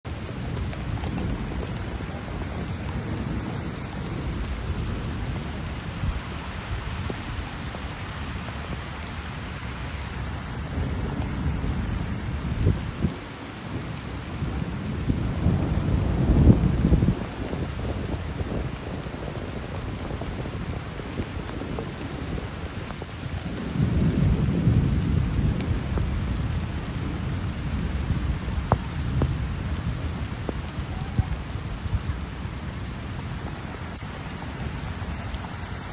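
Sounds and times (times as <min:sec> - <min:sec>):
heavy rain pouring: 0:00.0 - 0:35.9
thunder rumbling: 0:00.1 - 0:35.9.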